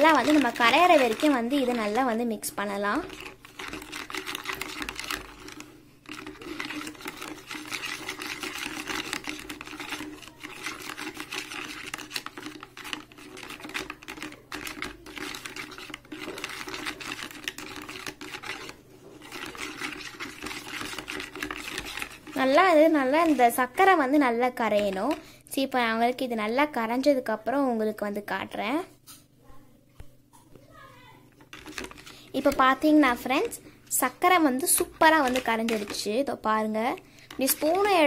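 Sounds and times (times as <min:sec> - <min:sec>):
spoon stirring gritty sugar: 0:00.0 - 0:25.3, 0:31.4 - 0:38.0.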